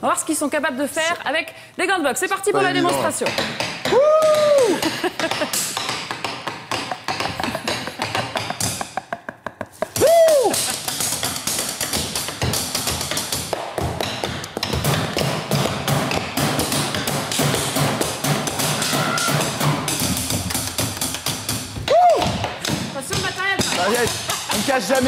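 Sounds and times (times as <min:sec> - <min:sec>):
rapid drumstick tapping on desk: 0:03.2 - 0:09.0, 0:09.9 - 0:25.0.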